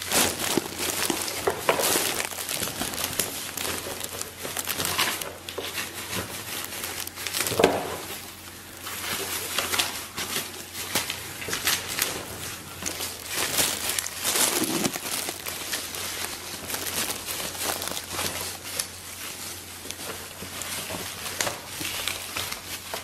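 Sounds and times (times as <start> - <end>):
shears crunching roasted meat: 0.0 - 23.0.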